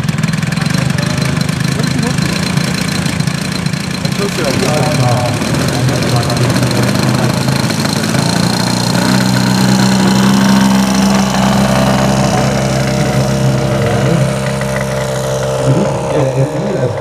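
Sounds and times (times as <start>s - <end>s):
model plane engine and propeller: 0.0s - 17.0s.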